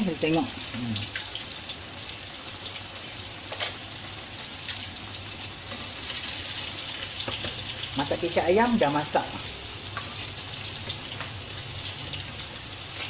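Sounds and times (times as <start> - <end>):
gravy boiling in a pan: 0.0 - 13.0.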